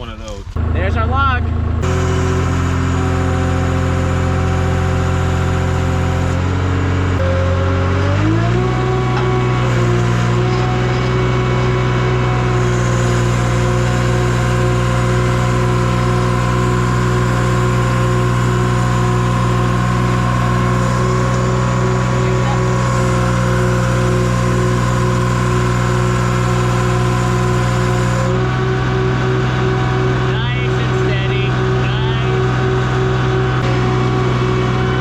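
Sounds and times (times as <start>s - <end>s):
skid steer engine running: 0.0s - 35.0s.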